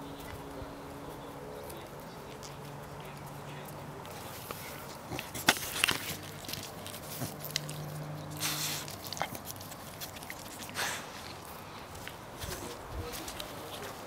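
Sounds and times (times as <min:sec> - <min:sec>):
dogs scuffling at play: 0:00.0 - 0:14.0.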